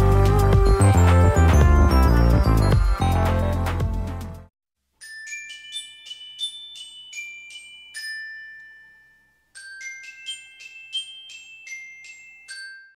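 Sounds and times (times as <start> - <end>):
glockenspiel-like bell jingle: 0.6 - 3.5, 5.0 - 13.0.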